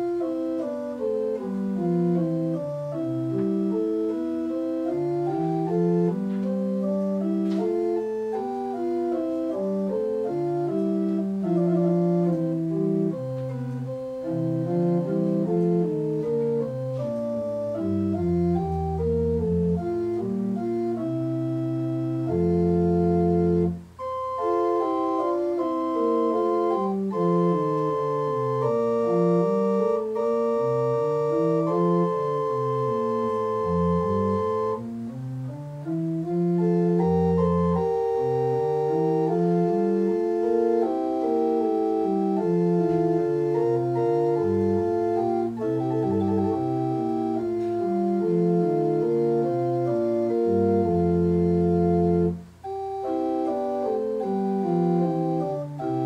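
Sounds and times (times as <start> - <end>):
church organ playing: 0.0 - 56.0.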